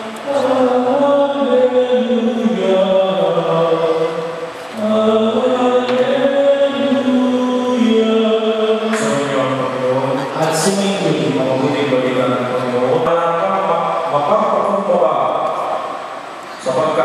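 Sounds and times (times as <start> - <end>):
voices singing a hymn: 0.0 - 14.9.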